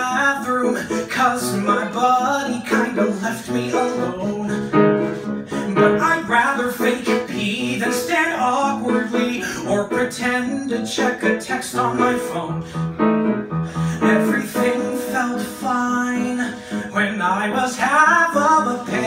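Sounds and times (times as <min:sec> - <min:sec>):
grand piano: 0:00.0 - 0:19.0
man singing: 0:00.0 - 0:19.0.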